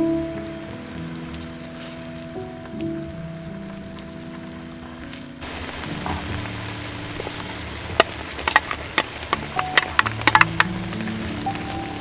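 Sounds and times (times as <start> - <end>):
stew simmering with sizzling hiss: 0.0 - 12.0.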